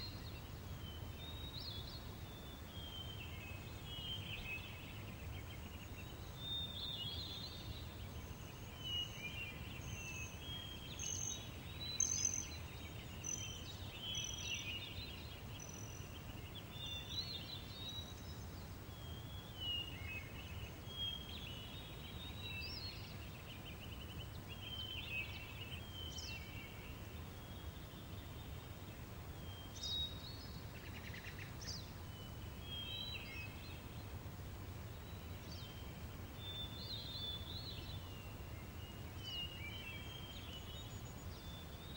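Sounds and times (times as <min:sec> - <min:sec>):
low rumble of breeze: 0:00.0 - 0:41.9
songbirds chirping and trilling: 0:00.0 - 0:41.9.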